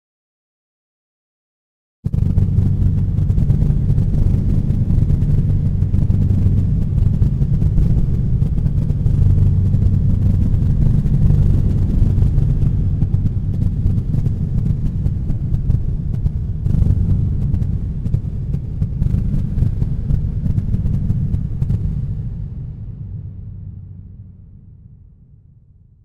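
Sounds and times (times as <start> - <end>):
deep rumbling drone: 2.1 - 26.0.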